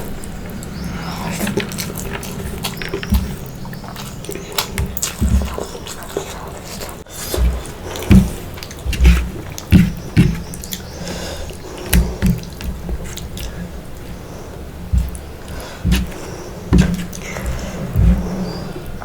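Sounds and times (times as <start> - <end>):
wet chewing and mouth sounds: 0.0 - 19.0.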